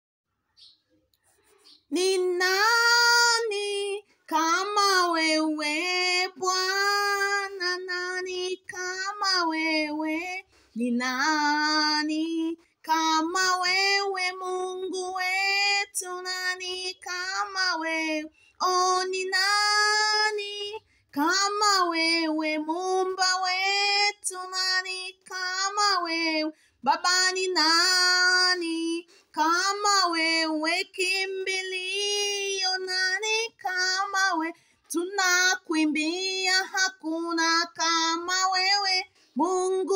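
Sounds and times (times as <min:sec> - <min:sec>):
woman singing unaccompanied: 0:01.7 - 0:39.9.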